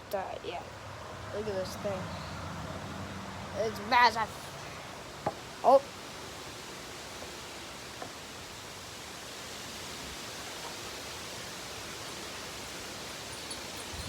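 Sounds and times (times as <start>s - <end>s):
rushing wind gusts: 0.0s - 14.0s.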